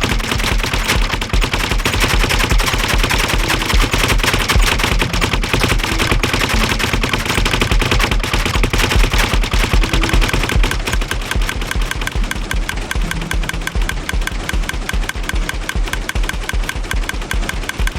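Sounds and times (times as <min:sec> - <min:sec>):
gadget rattling with rapid clicks: 0:00.0 - 0:17.9.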